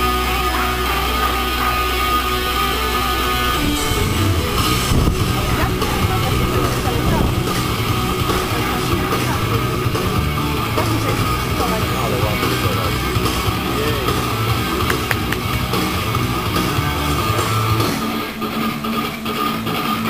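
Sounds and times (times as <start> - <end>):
rock music with guitar: 0.0 - 20.0.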